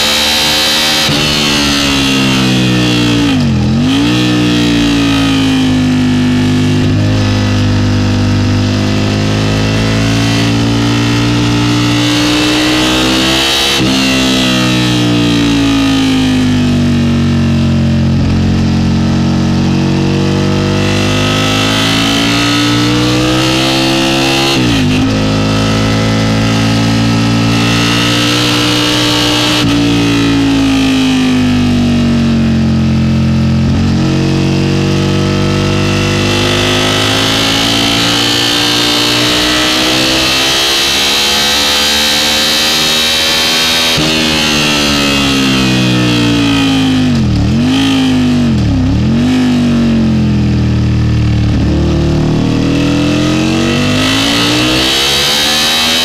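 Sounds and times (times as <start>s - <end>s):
motorcycle engine at full throttle: 0.0s - 56.0s.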